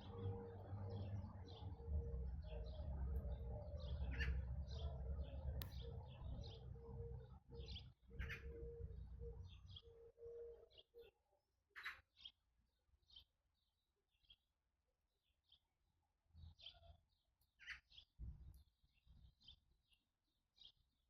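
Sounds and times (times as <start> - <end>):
small birds chirping: 0.0 - 11.2, 11.8 - 12.4, 13.0 - 14.4, 16.4 - 20.9.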